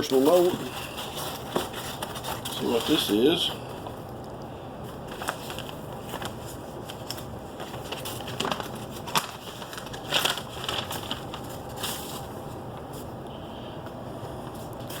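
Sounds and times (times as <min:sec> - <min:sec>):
packaging crinkling: 0:00.0 - 0:13.1.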